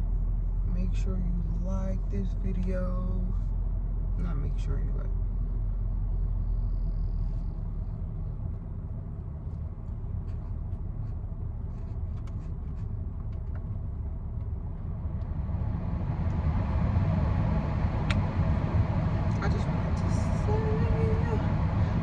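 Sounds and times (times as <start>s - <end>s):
engine and road rumble: 0.0s - 22.0s.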